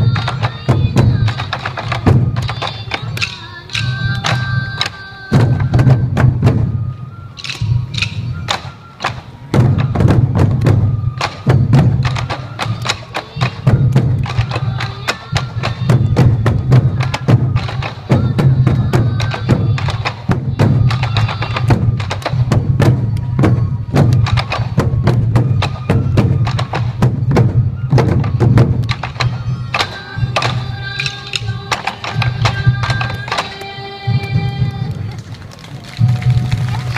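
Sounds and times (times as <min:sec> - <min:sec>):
taiko drums fast rhythm: 0:00.0 - 0:33.4
bamboo flute melody: 0:00.0 - 0:36.9.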